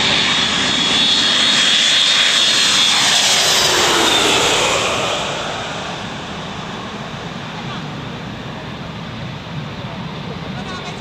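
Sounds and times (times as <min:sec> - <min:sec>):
airplane flying low overhead: 0:00.0 - 0:11.0.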